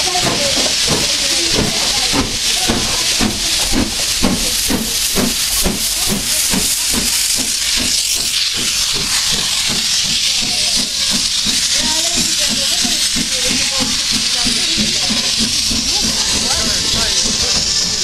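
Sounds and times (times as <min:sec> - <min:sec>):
steam hissing: 0:00.0 - 0:18.0
steam locomotive exhaust beats: 0:00.0 - 0:18.0.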